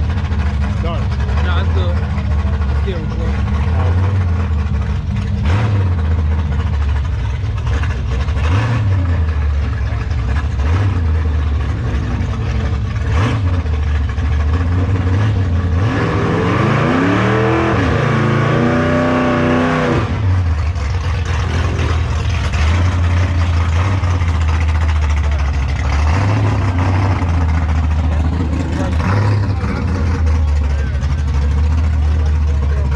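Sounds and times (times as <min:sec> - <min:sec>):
engine revving up: 0:00.0 - 0:06.8, 0:07.7 - 0:32.9
car engine idling: 0:00.0 - 0:16.0, 0:19.3 - 0:32.9.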